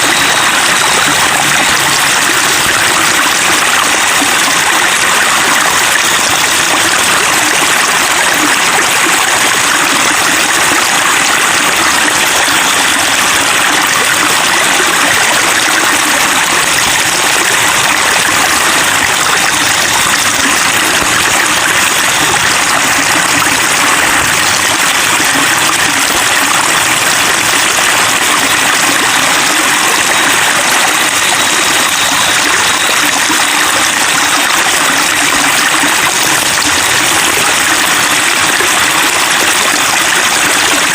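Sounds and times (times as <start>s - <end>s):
water babbling over rocks: 0.0s - 40.9s.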